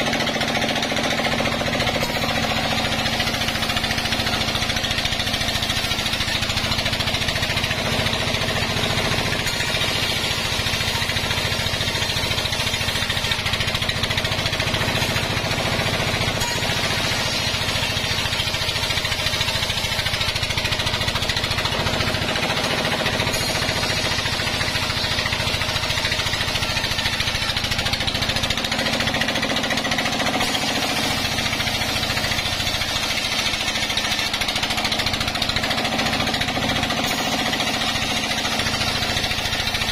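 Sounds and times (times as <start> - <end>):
band sawmill cutting log: 0.0 - 39.9.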